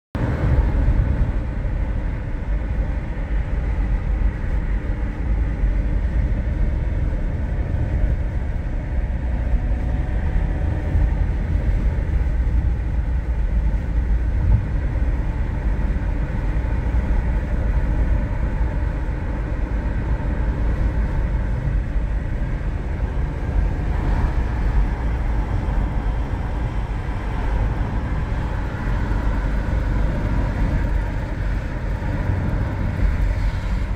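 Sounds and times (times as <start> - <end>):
car engine: 0.2 - 33.9
tyre and road noise: 0.2 - 33.9.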